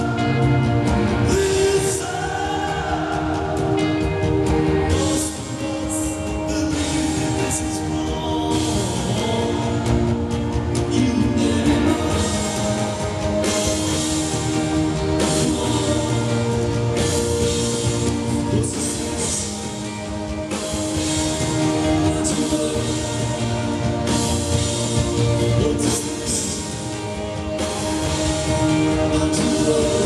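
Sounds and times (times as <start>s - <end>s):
drum kit with cymbals: 0.0s - 30.0s
electric guitars: 0.0s - 30.0s.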